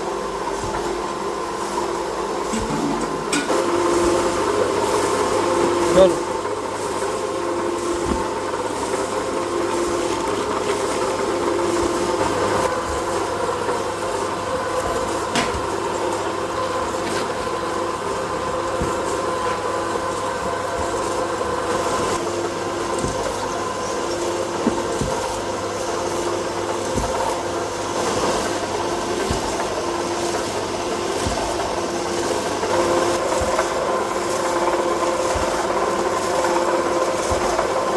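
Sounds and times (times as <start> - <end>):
machinery humming: 0.0 - 37.9.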